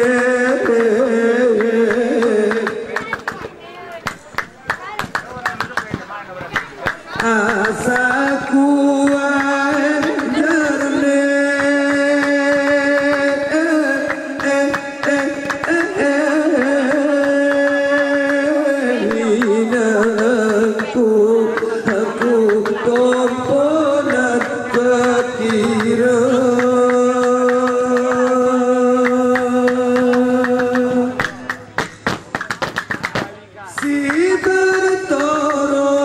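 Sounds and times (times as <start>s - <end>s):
men singing together: 0.0s - 2.9s, 7.1s - 31.6s, 33.7s - 36.0s
hand claps: 0.5s - 35.8s.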